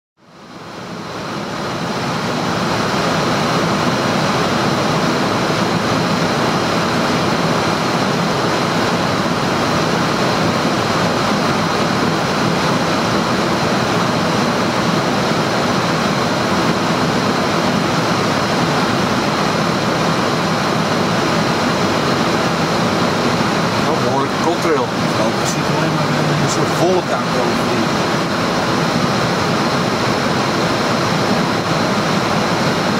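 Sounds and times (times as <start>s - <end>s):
faint hum: 0.3s - 32.9s
rushing airflow noise: 0.6s - 32.9s.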